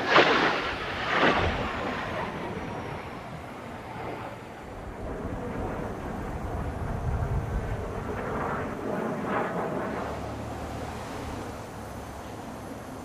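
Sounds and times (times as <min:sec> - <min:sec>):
distant jet noise: 0:00.0 - 0:13.0.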